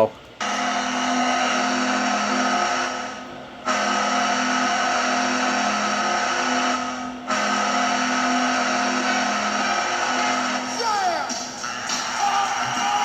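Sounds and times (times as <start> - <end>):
goal horn blast: 0.4 - 12.2.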